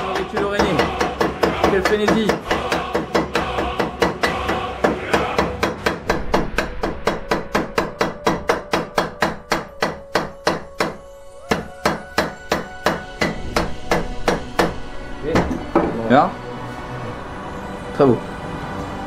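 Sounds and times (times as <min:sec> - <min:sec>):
hammer blows on steel anvil: 0:00.0 - 0:16.0.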